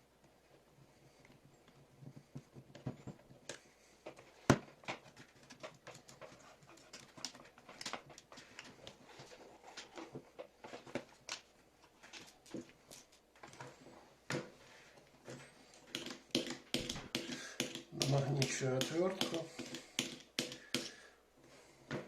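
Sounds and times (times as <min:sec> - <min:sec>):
hands handling tools and parts: 0:01.2 - 0:21.1.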